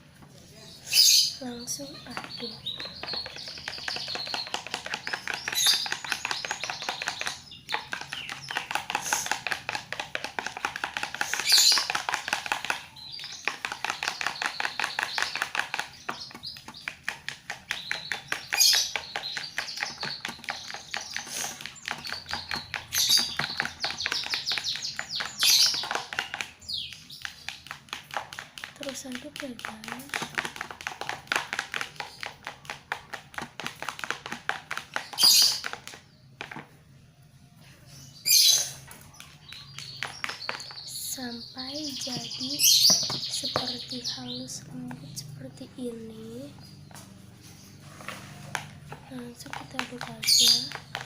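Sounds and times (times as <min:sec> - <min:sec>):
rapid stirring of soapy water: 0:00.0 - 0:36.8, 0:38.6 - 0:51.0.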